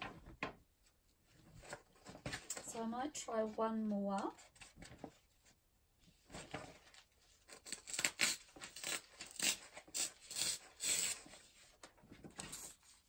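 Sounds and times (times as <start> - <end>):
paper crinkling and rustling: 0.0 - 3.6, 4.2 - 13.0.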